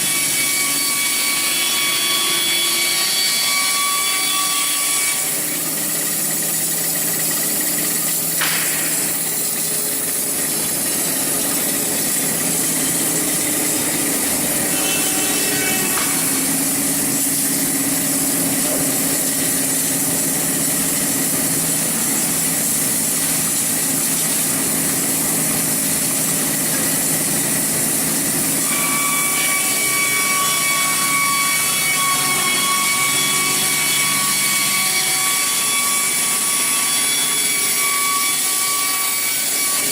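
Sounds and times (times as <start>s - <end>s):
bandsaw sawing through log: 0.0s - 39.9s.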